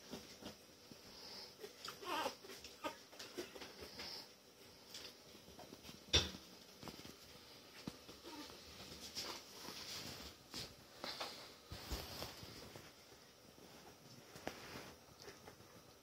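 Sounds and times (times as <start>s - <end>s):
puppies shuffling on blanket: 0.0s - 16.0s.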